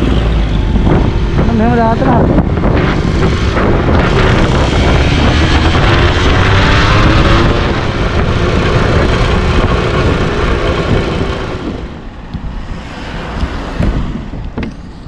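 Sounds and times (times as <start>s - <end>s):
motorcycle engine accelerating: 0.0s - 12.1s
wind rumble on microphone: 0.0s - 15.0s.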